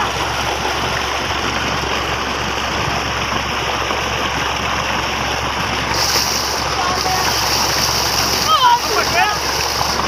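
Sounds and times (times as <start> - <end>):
water gushing into pond: 0.0 - 10.0.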